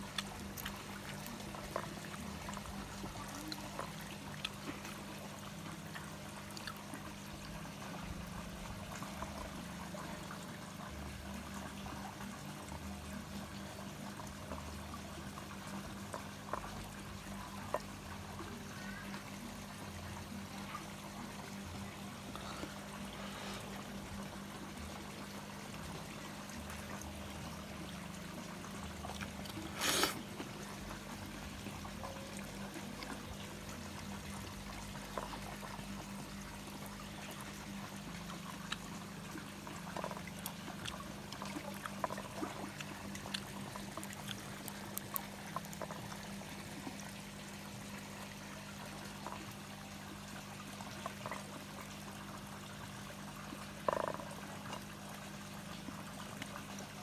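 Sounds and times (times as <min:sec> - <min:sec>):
water pouring into pond: 0:00.0 - 0:57.0.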